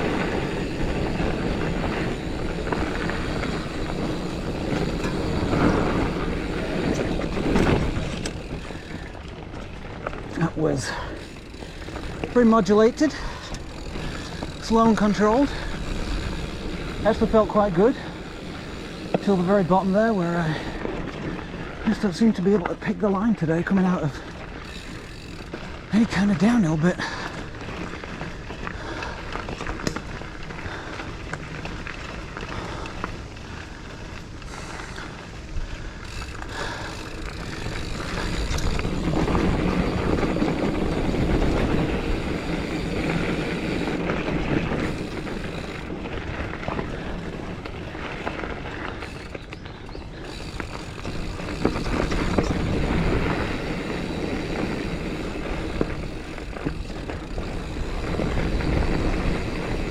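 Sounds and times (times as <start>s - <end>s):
tyre and wind rush: 0.0s - 23.1s, 24.0s - 59.9s
bike clicks and rattles: 0.0s - 59.9s.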